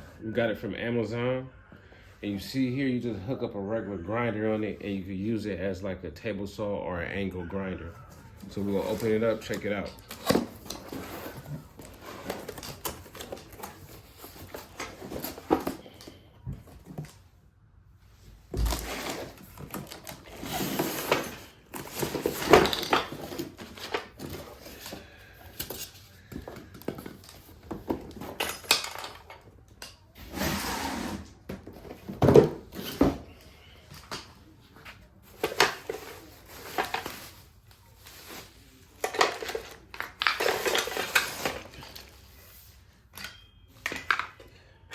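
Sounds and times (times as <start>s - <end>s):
cardboard and wrapping rustling: 7.8s - 17.4s, 18.0s - 44.4s.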